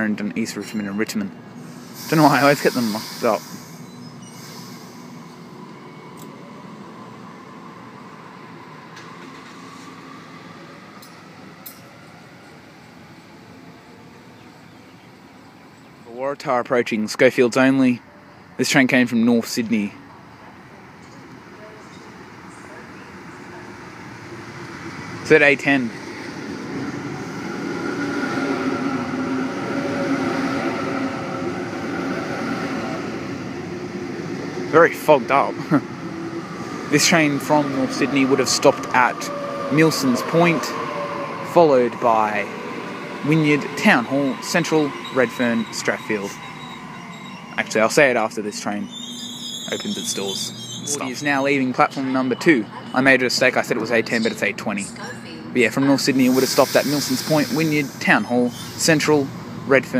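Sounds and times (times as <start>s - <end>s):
electric train rumble and hum: 0.0s - 16.2s, 19.9s - 51.9s, 53.7s - 59.9s.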